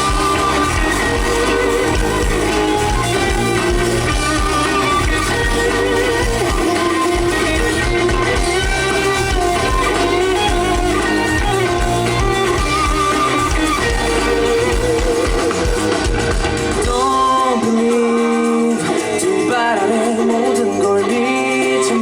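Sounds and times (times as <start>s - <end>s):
steady drum beat: 0.0s - 20.2s
electric guitar: 0.0s - 22.0s.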